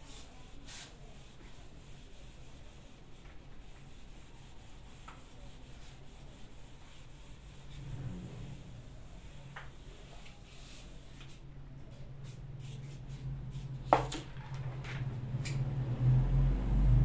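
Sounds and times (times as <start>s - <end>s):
eraser wiping whiteboard: 0.0s - 14.4s.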